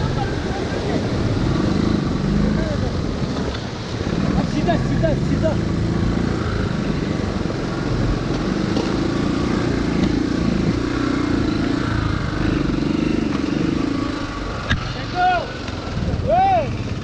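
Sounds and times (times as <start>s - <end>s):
motorcycle engine running: 0.0s - 17.0s
stream rushing: 0.0s - 17.0s.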